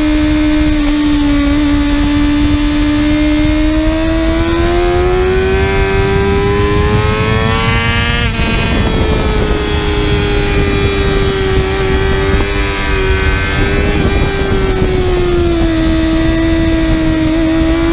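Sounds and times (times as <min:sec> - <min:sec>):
motorcycle engine accelerating: 0:00.0 - 0:17.9
wind rush: 0:00.0 - 0:17.9.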